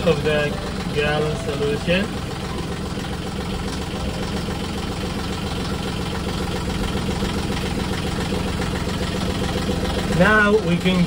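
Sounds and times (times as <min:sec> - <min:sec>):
diesel engine idling: 0:00.0 - 0:11.0
water pump drawing liquid: 0:00.0 - 0:11.0.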